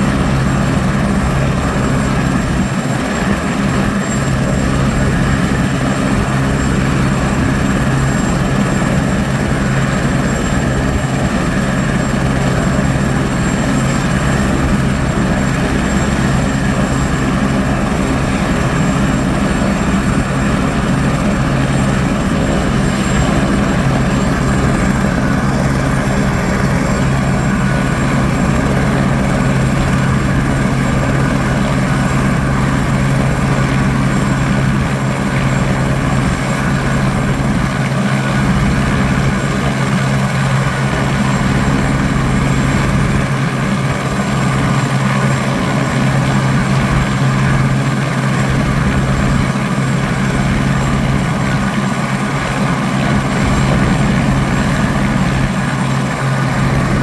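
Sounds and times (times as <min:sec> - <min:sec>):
helicopter running: 0:00.0 - 0:57.0.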